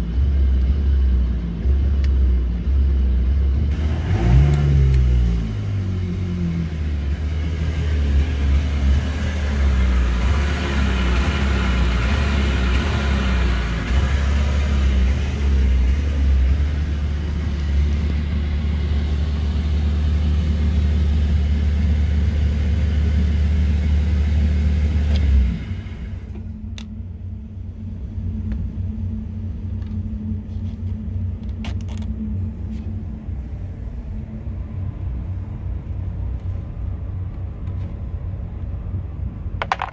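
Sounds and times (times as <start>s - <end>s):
low rumble: 0.0s - 22.9s, 25.4s - 39.9s.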